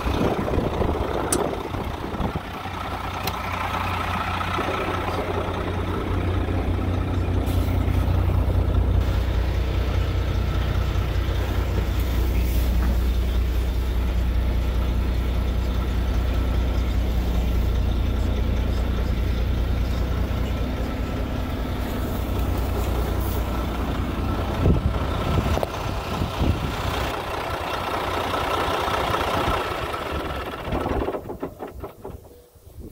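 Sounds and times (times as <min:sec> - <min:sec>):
truck engine idling: 0:00.0 - 0:32.9.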